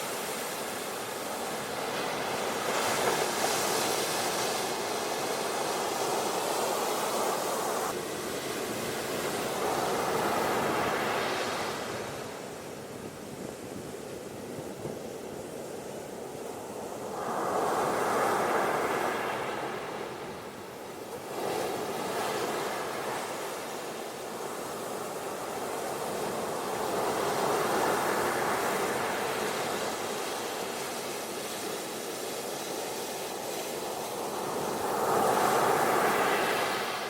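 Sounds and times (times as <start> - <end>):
ocean surf washing onto beach: 0.0 - 37.0.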